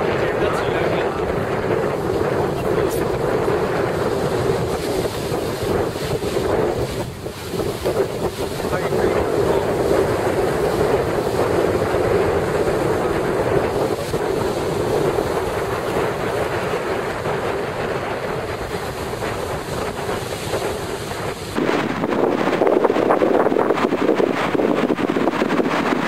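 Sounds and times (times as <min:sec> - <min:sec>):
surf washing onto beach: 0:00.0 - 0:26.0
wind buffeting the microphone: 0:00.0 - 0:26.0.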